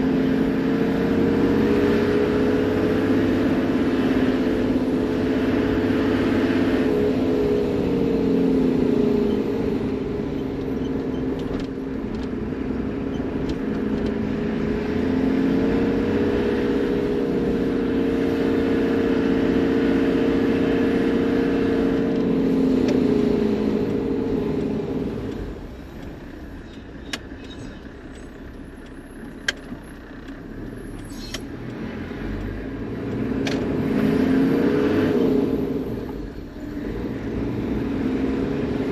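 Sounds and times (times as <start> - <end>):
diesel engine driving: 0.0 - 38.9.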